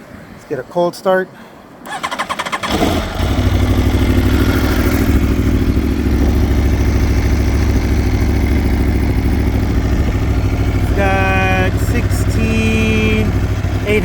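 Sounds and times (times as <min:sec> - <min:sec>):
motorcycle engine idling: 0:02.5 - 0:14.0.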